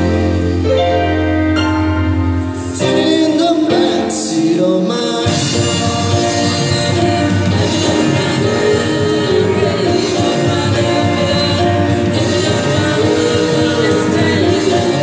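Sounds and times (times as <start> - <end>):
live band playing: 0.0 - 15.0
people singing: 2.8 - 15.0.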